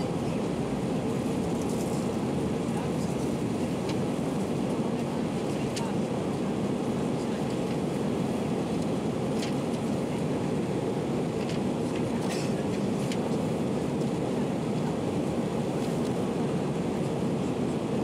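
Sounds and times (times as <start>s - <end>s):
aircraft cabin engine rush: 0.0s - 18.0s.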